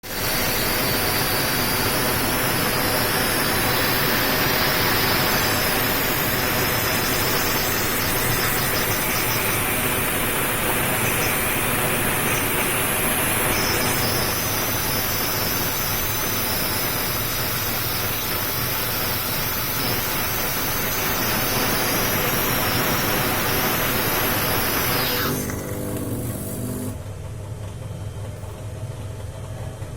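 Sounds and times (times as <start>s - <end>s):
coffee machine hissing: 0.0s - 27.1s.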